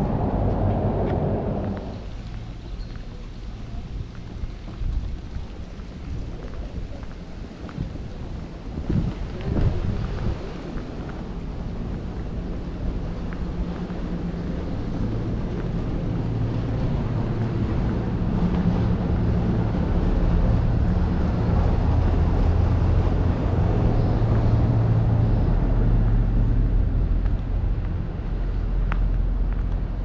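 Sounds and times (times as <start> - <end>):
street noise: 0.0 - 30.0
vehicle engine rumble: 0.0 - 30.0.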